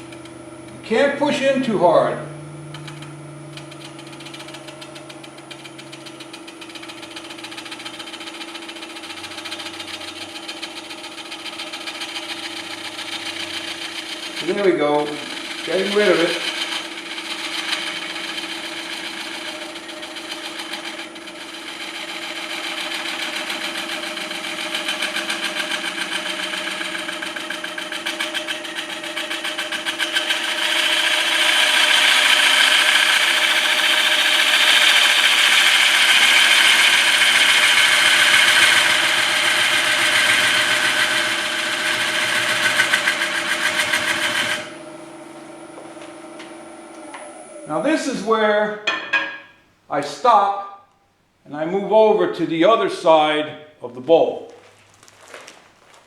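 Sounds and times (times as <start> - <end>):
lathe motor hum: 0.0 - 47.9
lathe tool cutting wood: 0.0 - 48.2.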